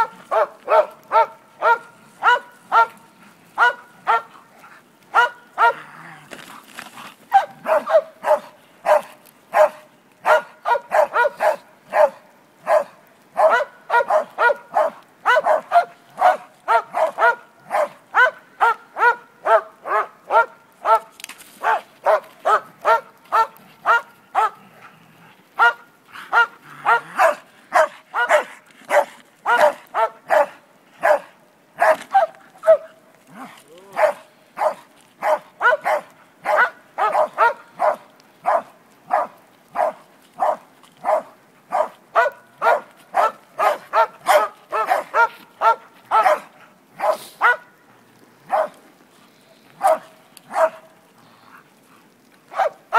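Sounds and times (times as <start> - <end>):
dog barking: 0.0 - 3.0, 3.6 - 4.4, 5.1 - 5.8, 7.3 - 24.6, 25.6 - 47.7, 48.5 - 48.8, 49.8 - 50.9, 52.5 - 52.9.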